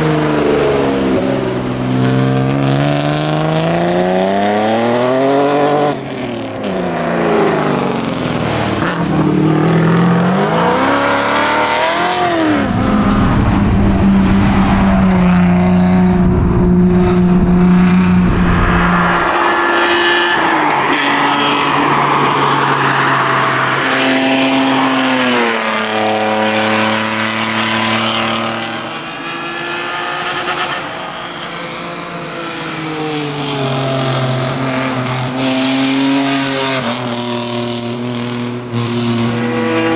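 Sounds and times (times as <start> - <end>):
car engine revving: 0.0 - 39.9
road and tyre rumble: 0.0 - 39.9.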